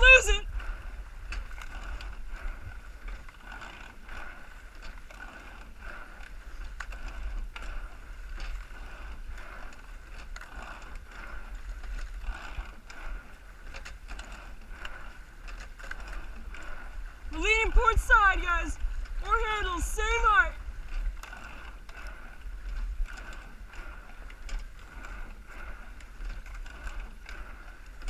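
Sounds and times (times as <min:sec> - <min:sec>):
oars clacking in oarlocks: 0:00.0 - 0:28.0
seats rolling on slides: 0:00.0 - 0:28.0
water rushing and low rumble: 0:00.0 - 0:28.0.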